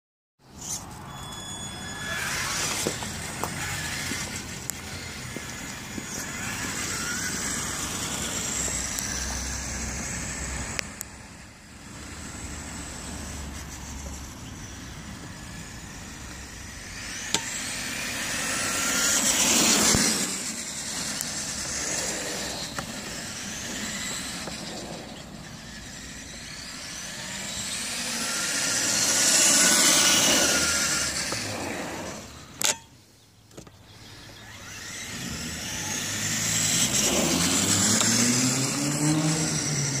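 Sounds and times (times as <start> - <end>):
toy car electric motor whine: 0.5 - 32.9, 33.6 - 40.0
tyre noise on asphalt: 0.6 - 40.0.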